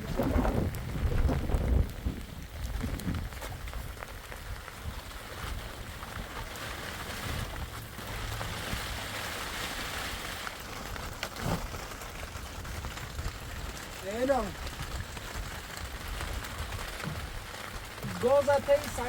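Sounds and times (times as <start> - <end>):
steady rain falling: 0.0 - 19.0
wind rumbling on microphone: 0.0 - 19.0.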